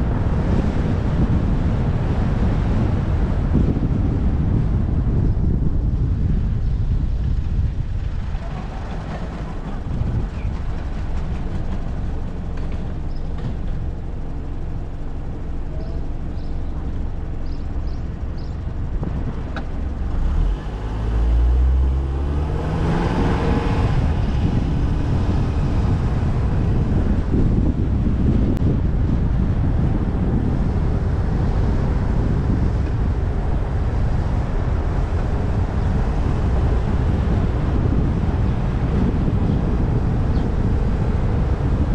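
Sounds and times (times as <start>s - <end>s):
street traffic rumble: 0.0s - 41.9s
vehicle engine accelerating: 6.7s - 41.9s.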